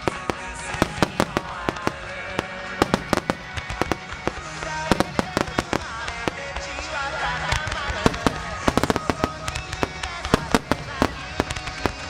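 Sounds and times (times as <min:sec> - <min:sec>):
fireworks bursting: 0:00.0 - 0:12.0
song playing: 0:00.0 - 0:12.0.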